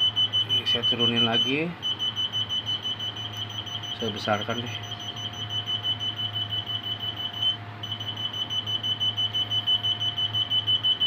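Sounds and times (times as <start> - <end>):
high-pitched pulsing electronic beeping: 0.0 - 11.0.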